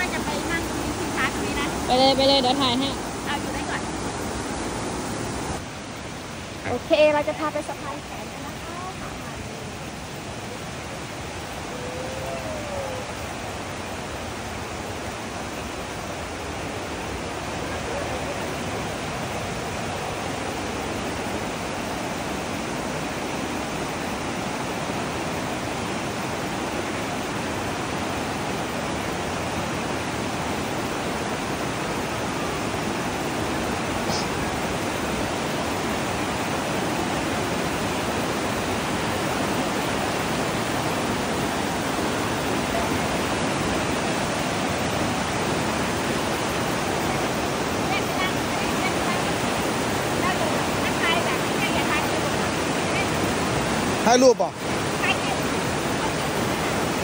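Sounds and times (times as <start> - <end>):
stream water rushing over boulders: 0.0 - 57.0.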